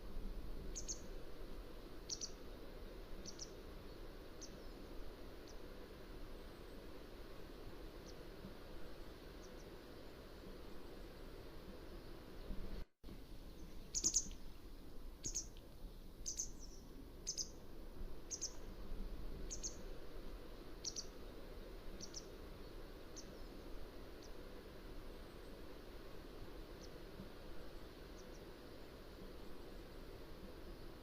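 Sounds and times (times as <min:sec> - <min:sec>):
low background hiss: 0:00.0 - 0:31.0.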